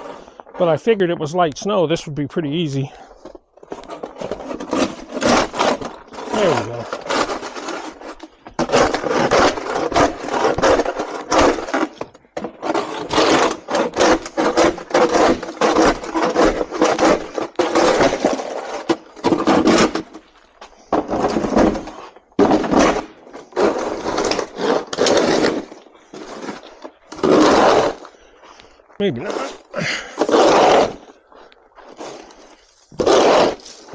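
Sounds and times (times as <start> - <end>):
snow shovel scraping ground: 0.0 - 0.8, 2.7 - 33.9.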